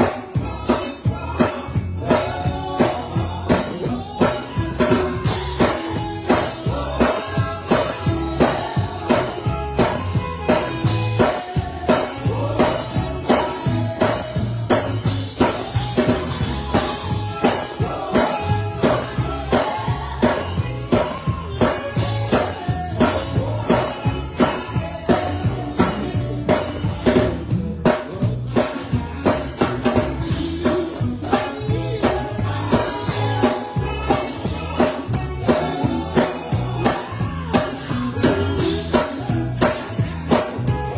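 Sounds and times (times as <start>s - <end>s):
bass: 0.0s - 40.9s
drum kit beat: 0.0s - 40.9s
singing: 0.0s - 40.9s.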